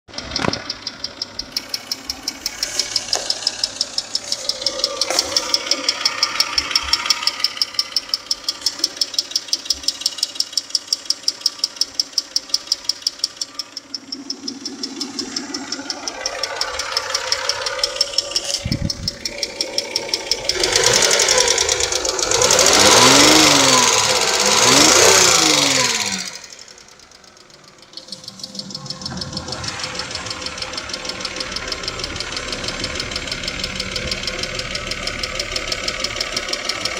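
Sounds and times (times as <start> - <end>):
car engine ticking knock: 0.0 - 36.9
engine revving: 0.1 - 36.9.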